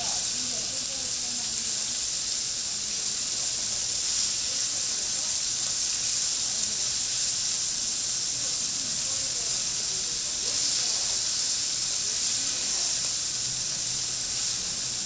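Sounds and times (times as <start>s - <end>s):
steak sizzling on griddle: 0.0s - 15.0s.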